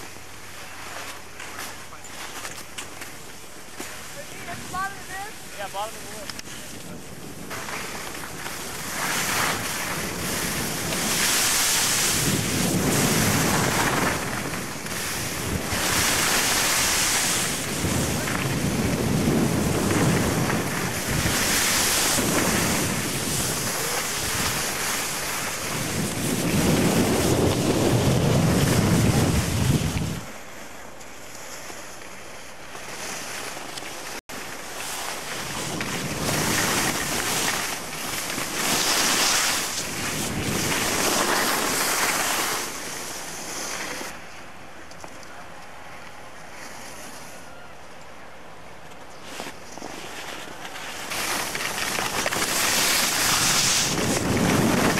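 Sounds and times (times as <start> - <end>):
wind gusting across microphone: 0.0 - 54.9.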